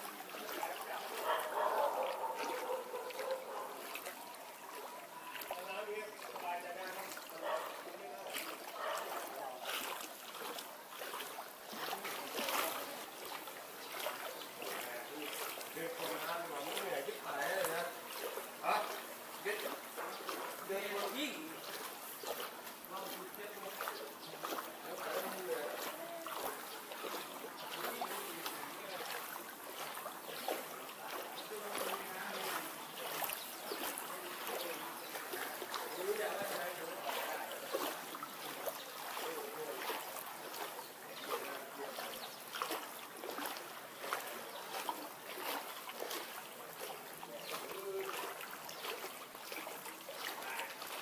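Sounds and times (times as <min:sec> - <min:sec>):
floodwater splashing and sloshing: 0:00.0 - 0:51.0
water rushing: 0:00.0 - 0:51.0.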